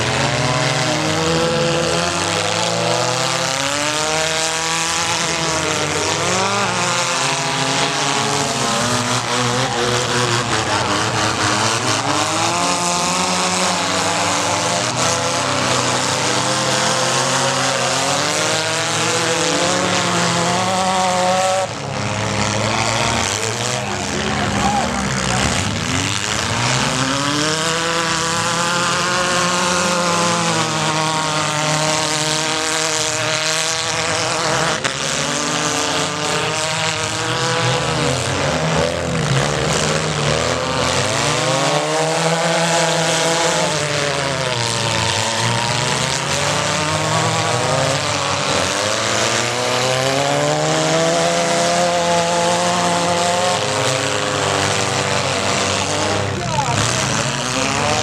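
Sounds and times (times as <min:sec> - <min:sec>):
car engines revving: 0:00.0 - 0:58.0
several engines running: 0:00.0 - 0:58.0.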